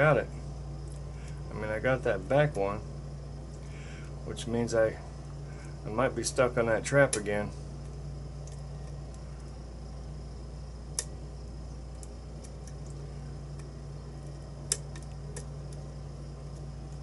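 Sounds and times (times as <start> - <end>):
low fan hum: 0.0 - 17.0.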